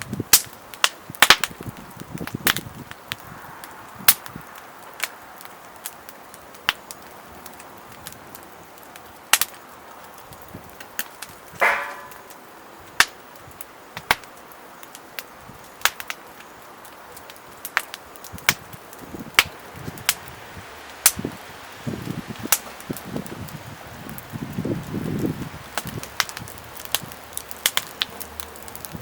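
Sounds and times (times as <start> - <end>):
wood fire popping and cracking: 0.0 - 29.0.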